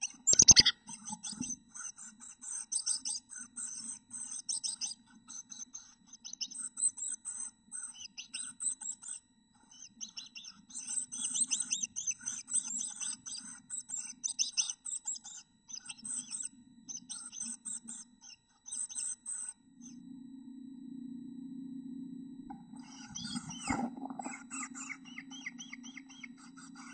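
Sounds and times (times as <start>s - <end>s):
faint low hum: 0.0s - 26.9s
nestlings chirping: 0.3s - 19.5s, 22.7s - 26.9s.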